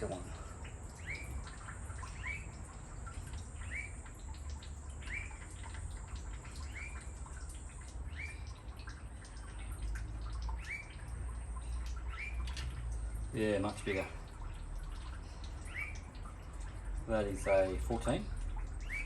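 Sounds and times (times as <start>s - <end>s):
water dripping: 0.0s - 19.0s.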